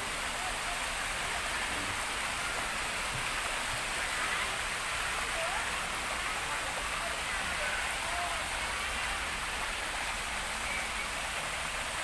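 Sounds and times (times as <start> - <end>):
faint voices: 0.0 - 12.0
waterfall rushing and splashing: 0.0 - 12.0.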